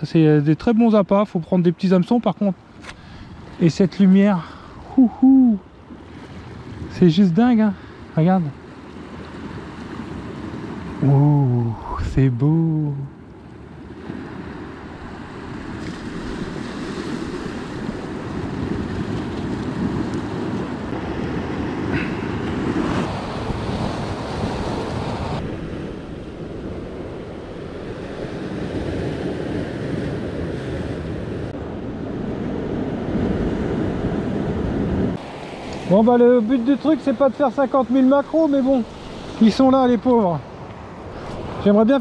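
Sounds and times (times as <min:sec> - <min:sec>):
sea waves on shore: 0:00.0 - 0:42.0.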